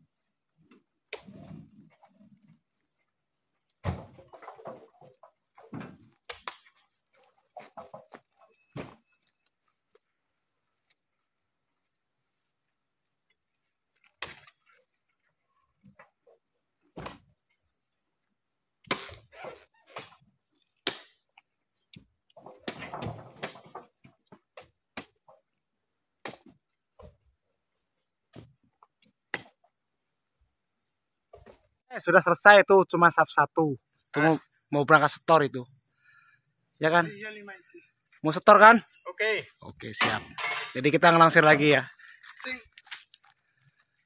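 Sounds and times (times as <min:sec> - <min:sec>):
high insect drone: 0:00.0 - 0:31.6, 0:32.8 - 0:44.0.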